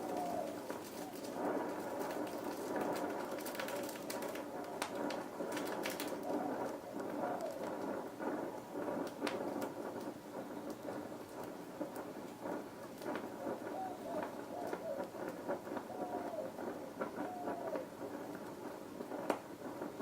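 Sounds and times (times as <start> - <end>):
flame crackles and pops: 0.0 - 20.0
torch flame hissing: 0.0 - 20.0.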